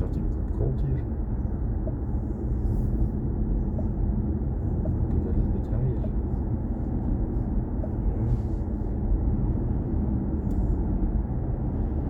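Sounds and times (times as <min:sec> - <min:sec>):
electric car road and tyre rumble: 0:00.0 - 0:12.0.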